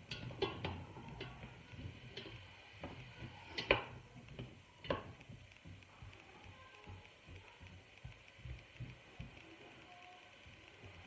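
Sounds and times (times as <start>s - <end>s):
onions sizzling faintly: 0.0s - 11.0s.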